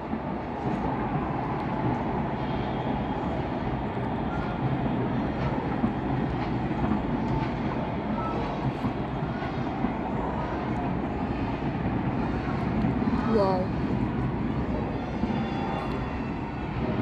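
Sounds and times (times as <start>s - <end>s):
distant fireworks rumble: 0.0s - 17.0s
faint fireworks crackles: 0.0s - 17.0s.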